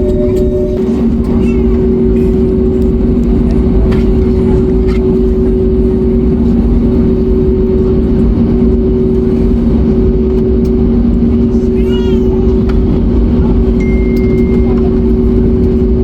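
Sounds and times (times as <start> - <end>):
jet engines humming: 0.0 - 16.0.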